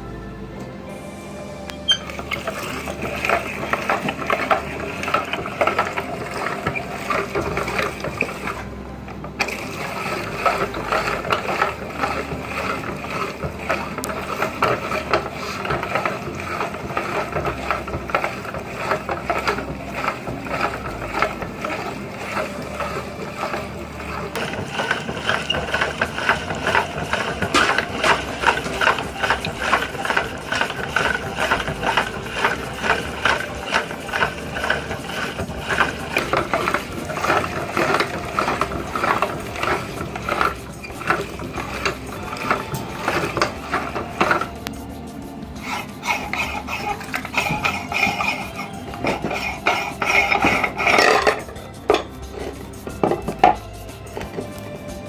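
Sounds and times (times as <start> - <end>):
meat grinder crunching wafer cones: 2.0 - 55.0.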